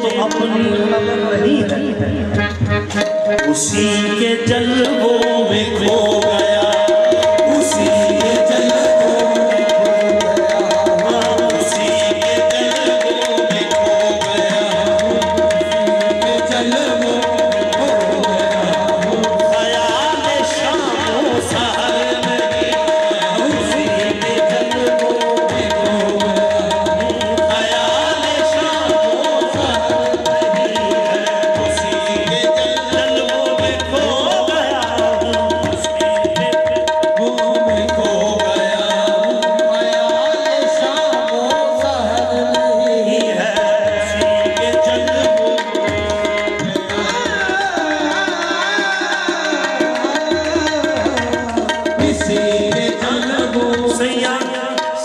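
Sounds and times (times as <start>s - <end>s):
harmonium steady note: 0.0s - 36.1s, 43.8s - 53.8s
tabla drumming: 0.0s - 55.0s.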